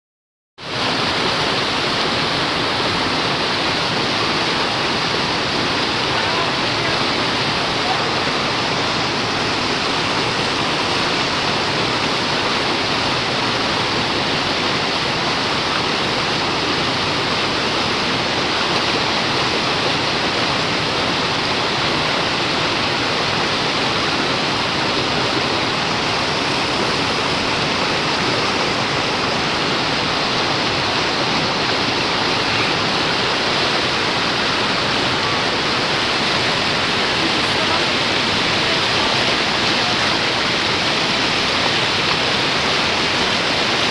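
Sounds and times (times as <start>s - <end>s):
waterfall roaring: 0.6s - 43.9s.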